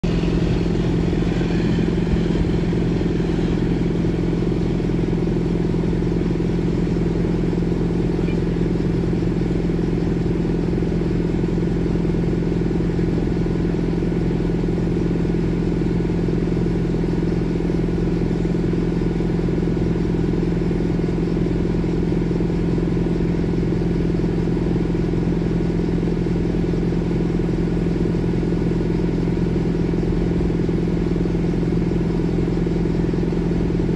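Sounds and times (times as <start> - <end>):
heavy machinery humming drone: 0.0 - 33.9.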